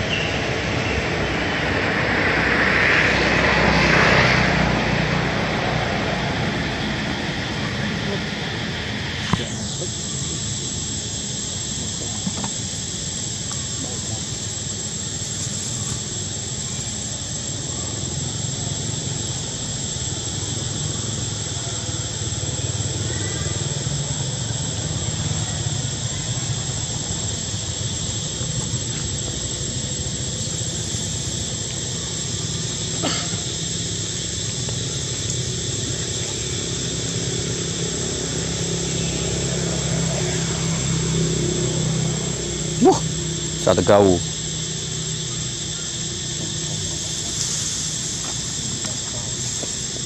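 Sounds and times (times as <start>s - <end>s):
even hiss: 0.0s - 50.0s
thin high-pitched whine: 7.6s - 50.0s.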